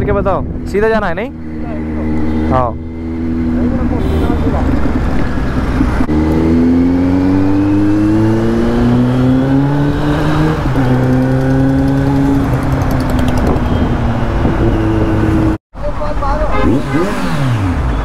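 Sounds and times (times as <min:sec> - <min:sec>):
motorcycle accelerating: 0:00.0 - 0:15.6, 0:16.5 - 0:18.0.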